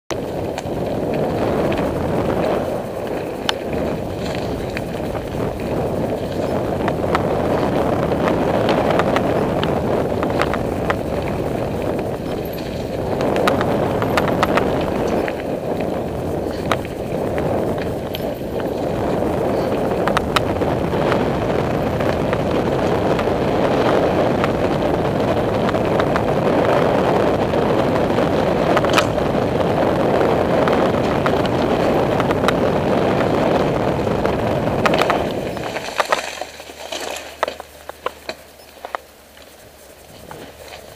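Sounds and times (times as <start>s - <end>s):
wind rush on microphone: 0.0s - 40.9s
bike rattles and knocks: 0.1s - 40.9s
tyres rolling over dirt: 0.1s - 40.9s.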